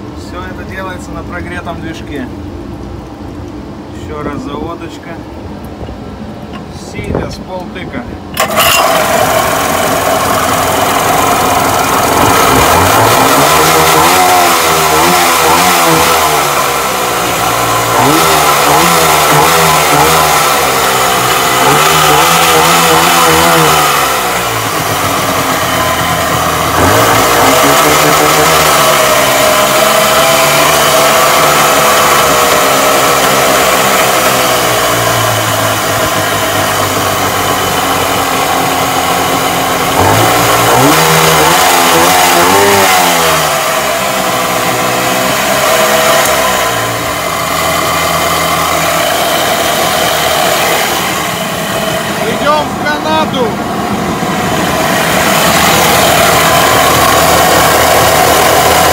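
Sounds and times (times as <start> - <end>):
outboard engine revving: 8.3 - 58.9.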